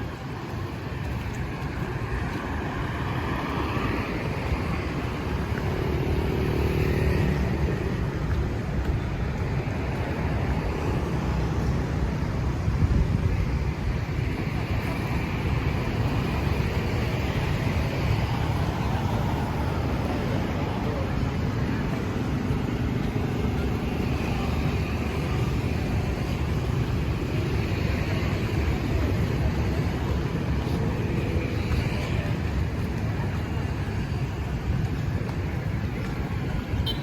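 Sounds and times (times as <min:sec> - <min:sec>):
road vehicles passing: 0:00.0 - 0:37.0.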